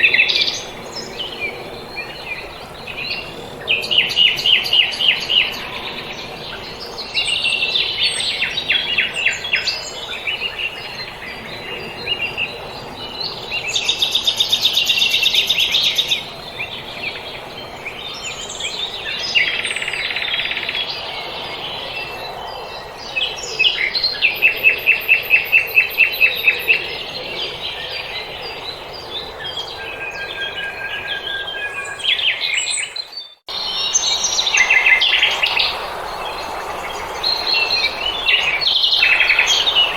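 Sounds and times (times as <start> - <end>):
small songbirds singing: 0.0 - 39.9.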